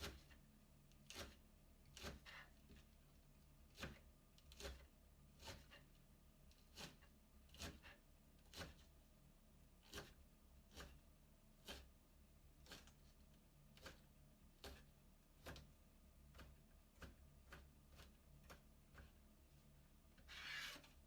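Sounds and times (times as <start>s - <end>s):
knife shredding cabbage: 0.0s - 9.1s, 9.8s - 21.0s.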